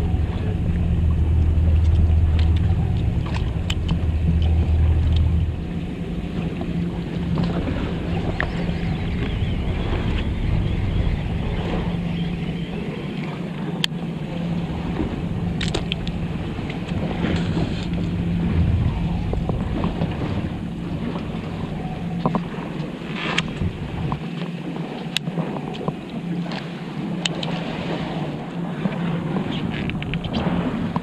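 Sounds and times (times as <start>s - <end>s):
boat engine humming: 0.0s - 31.0s
sea noise: 0.0s - 31.0s
wind: 0.0s - 31.0s.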